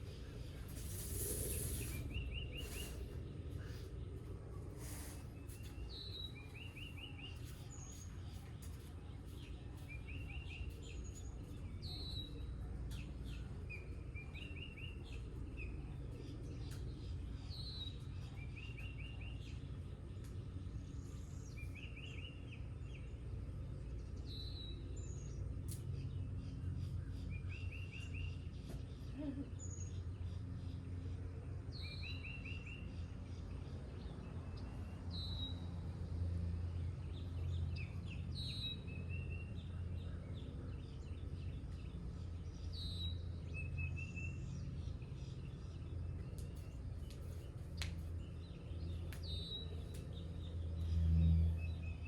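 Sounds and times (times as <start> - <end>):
songbird singing: 0.0 - 52.0.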